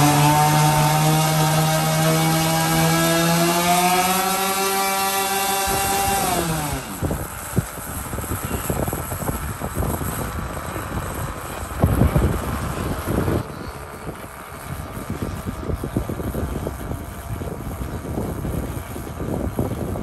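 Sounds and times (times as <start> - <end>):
model plane propeller drone: 0.0 - 20.0
wind buffeting microphone: 0.0 - 20.0.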